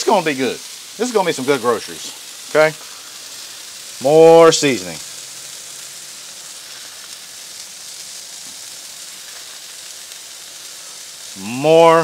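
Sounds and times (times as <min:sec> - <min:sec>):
burger patties sizzling on griddle: 0:00.0 - 0:12.0.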